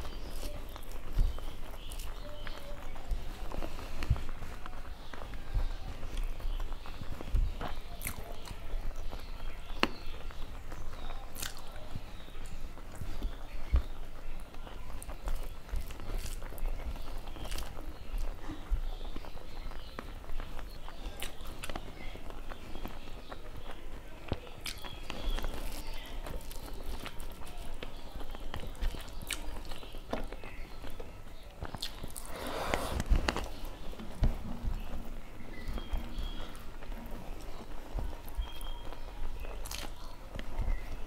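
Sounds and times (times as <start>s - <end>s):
chewing and mouth clicks: 0.0s - 41.0s
fingers squishing food on plate: 0.0s - 41.0s.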